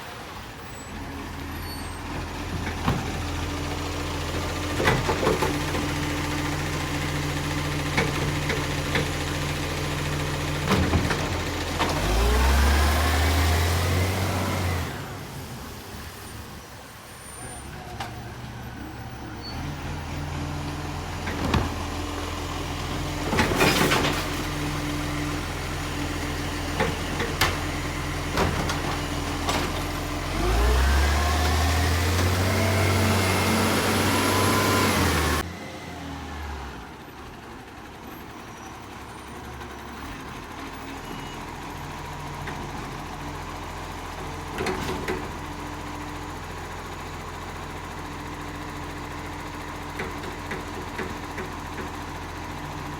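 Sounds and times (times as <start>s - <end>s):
diesel engine idling and revving: 0.0s - 52.9s.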